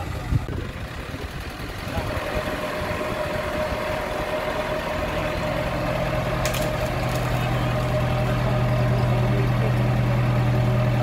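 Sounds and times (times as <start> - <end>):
steady whine: 0.0 - 11.0
truck engine running: 0.0 - 11.0.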